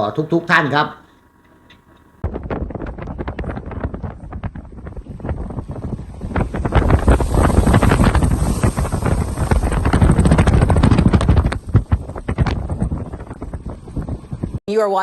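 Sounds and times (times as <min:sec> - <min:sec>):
wind buffeting a microphone: 0:02.0 - 0:14.6.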